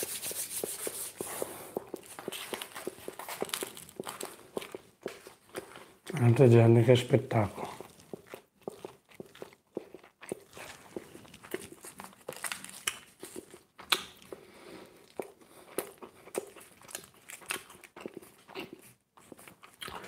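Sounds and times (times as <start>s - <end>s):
person chewing food: 0.0s - 6.6s, 7.2s - 20.0s.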